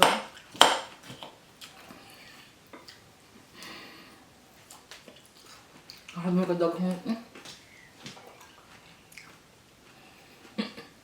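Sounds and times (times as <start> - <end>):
soft rustle of salad: 1.0 - 10.6.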